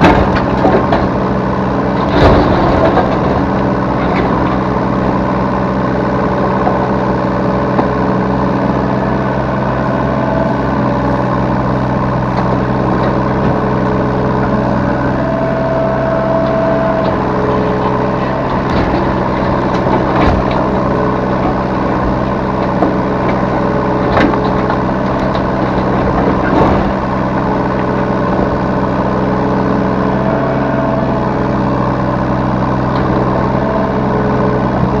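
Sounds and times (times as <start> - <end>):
diesel engine running: 0.0 - 35.0
higher engine tones: 0.0 - 35.0.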